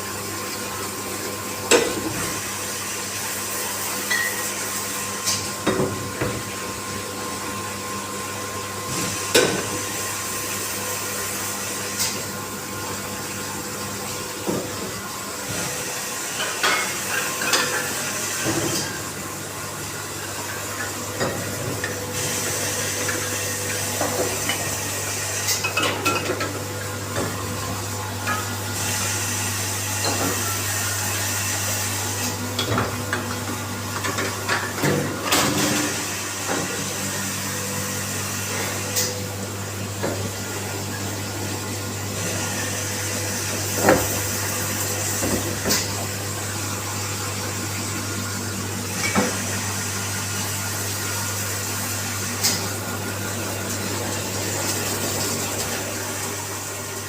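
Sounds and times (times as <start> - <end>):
machine motor hum and hiss: 0.0 - 57.0.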